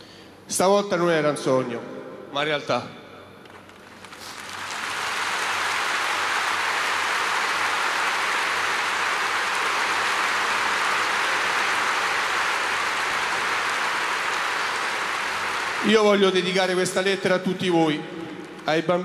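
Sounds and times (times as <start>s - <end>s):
stadium crowd applauding: 3.4s - 18.8s.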